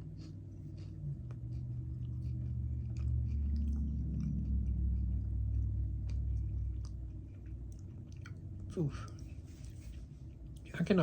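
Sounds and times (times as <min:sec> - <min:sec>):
person chewing crunchy snack: 0:00.0 - 0:10.7.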